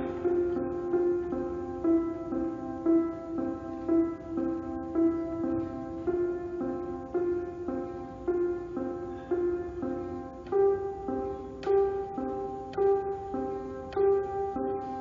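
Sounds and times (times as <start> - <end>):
slow gentle piano melody: 0.0 - 15.0.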